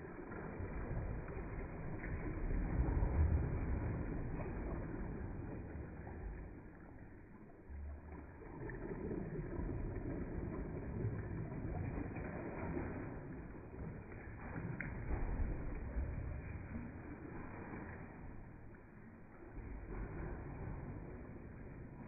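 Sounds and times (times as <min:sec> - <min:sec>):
water sloshing in wave pool: 0:00.0 - 0:22.0.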